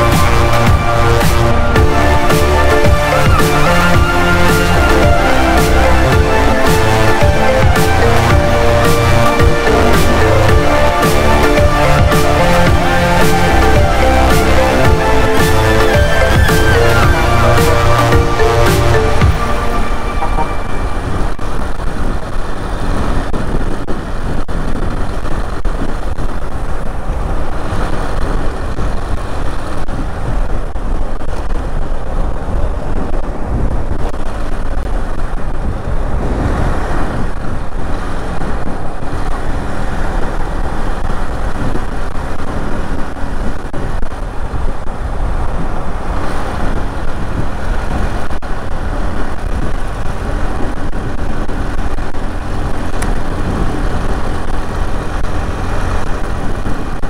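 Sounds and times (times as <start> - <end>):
wind and road noise rush: 0.0 - 57.0.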